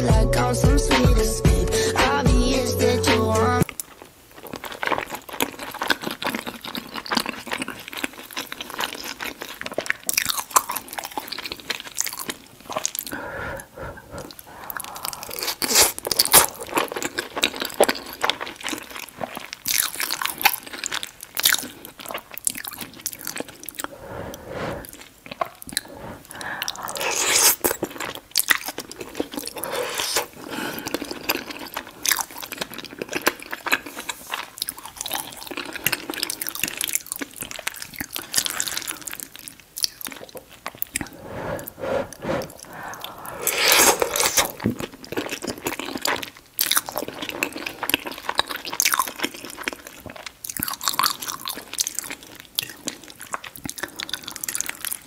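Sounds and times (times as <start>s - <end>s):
close chewing with mouth clicks: 3.6s - 55.0s.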